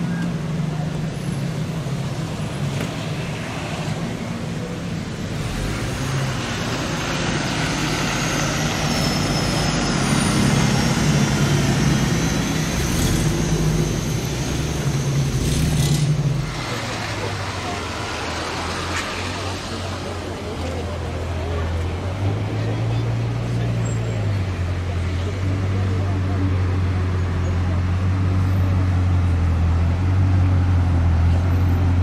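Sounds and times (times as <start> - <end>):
bus driving past: 0.0 - 32.0
car engines running: 0.0 - 32.0.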